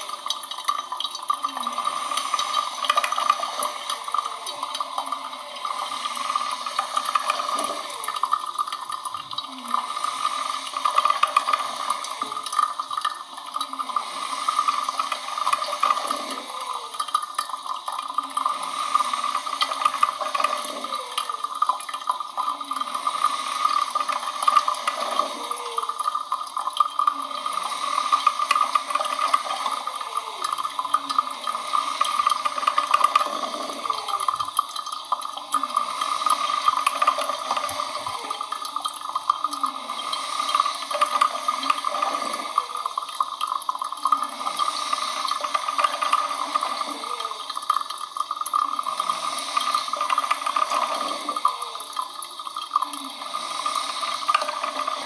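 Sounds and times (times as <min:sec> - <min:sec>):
coffee machine hissing: 0:00.0 - 0:55.0
gurgling bubbles: 0:00.0 - 0:55.0.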